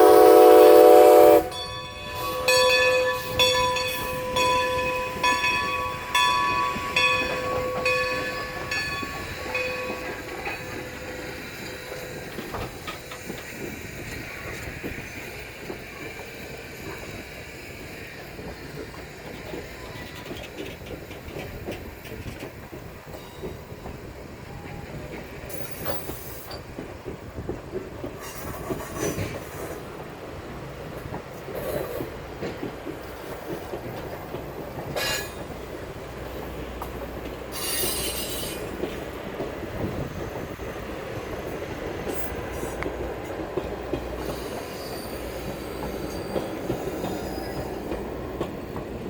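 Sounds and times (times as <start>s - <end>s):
train rumbling past: 0.0s - 49.0s
wheels clicking over rail joints: 1.4s - 49.0s.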